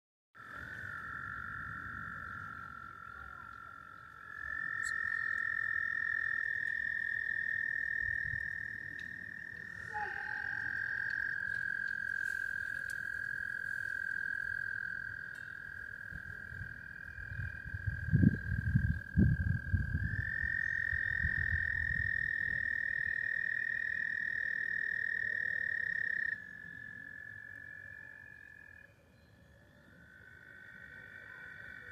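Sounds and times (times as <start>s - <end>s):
frogs trilling: 0.4s - 31.9s.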